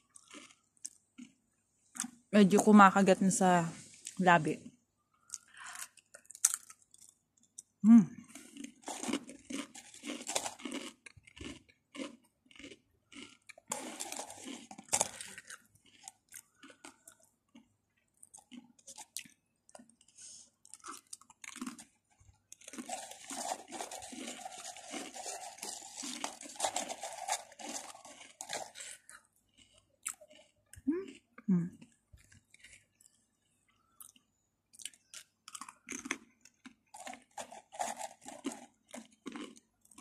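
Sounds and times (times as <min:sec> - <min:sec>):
crisps being chewed: 0:00.0 - 0:02.8, 0:04.0 - 0:40.0.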